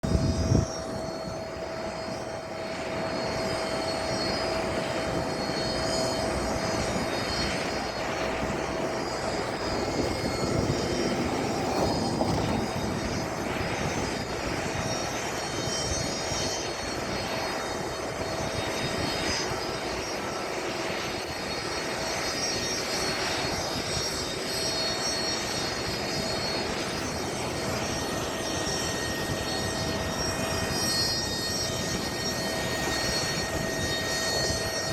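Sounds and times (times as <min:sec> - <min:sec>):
aircraft engine running: 0:00.0 - 0:34.9
engine whine: 0:00.0 - 0:34.9.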